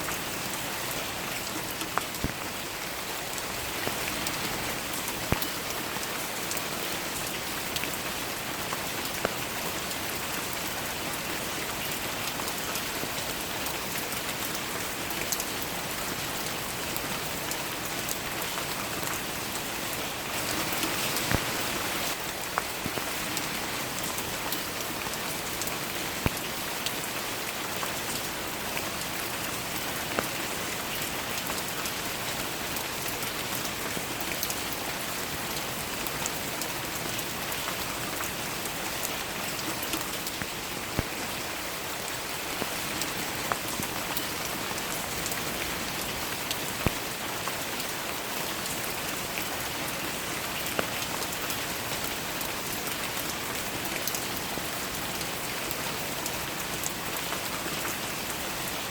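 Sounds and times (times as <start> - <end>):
raindrops ticking on a surface: 0.0 - 58.9
steady rain patter: 0.0 - 58.9.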